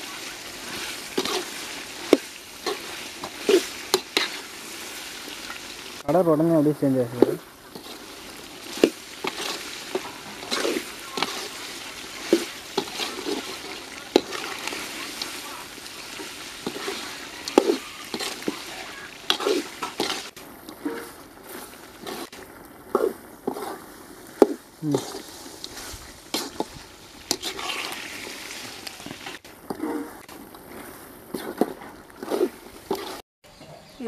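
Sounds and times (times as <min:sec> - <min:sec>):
chicken sizzling in pot: 0:00.0 - 0:34.0
ladle scraping metal pot: 0:00.5 - 0:05.0, 0:07.1 - 0:33.2.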